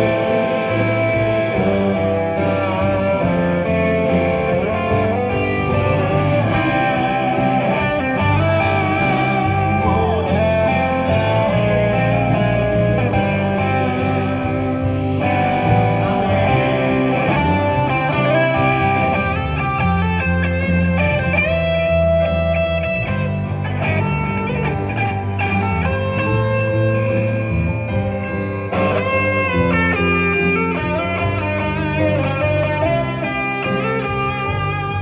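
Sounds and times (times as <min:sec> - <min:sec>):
bass guitar: 0:00.0 - 0:35.0
drums: 0:00.0 - 0:35.0
electric guitar: 0:00.0 - 0:35.0
keyboard: 0:00.0 - 0:35.0.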